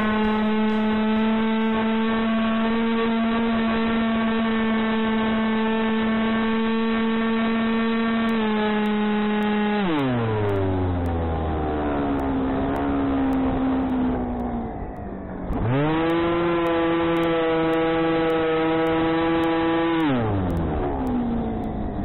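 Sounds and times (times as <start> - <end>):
electric motor and propeller whine: 0.0 - 22.0.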